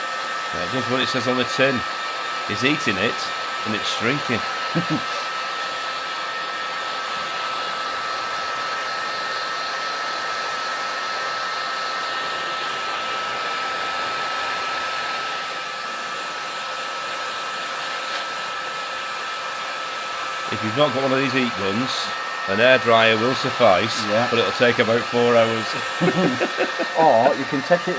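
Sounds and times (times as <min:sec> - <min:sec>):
heat gun blowing with whine: 0:00.0 - 0:27.9.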